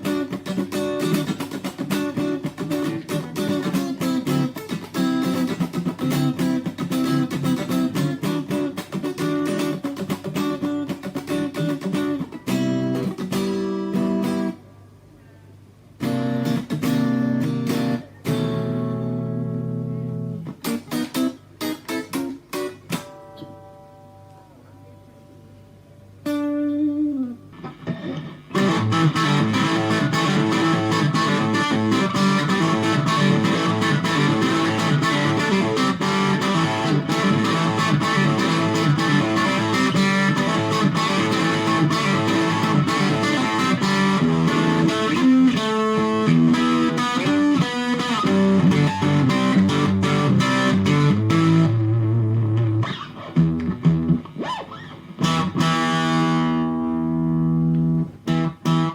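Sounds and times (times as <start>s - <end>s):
electric guitar through amplifier: 0.0s - 58.9s.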